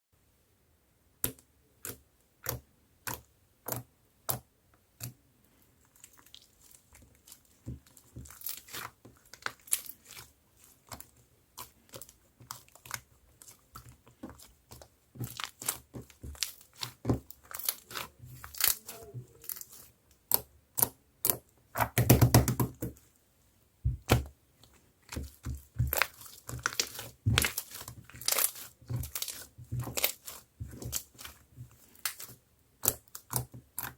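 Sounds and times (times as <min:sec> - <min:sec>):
slime crackling and squishing: 0:01.8 - 0:23.1, 0:23.8 - 0:33.9.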